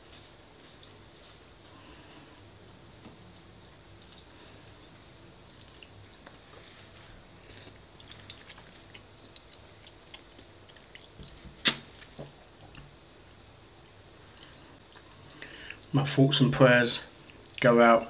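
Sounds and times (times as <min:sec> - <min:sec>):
wet chewing: 0:00.0 - 0:02.5, 0:03.3 - 0:15.9.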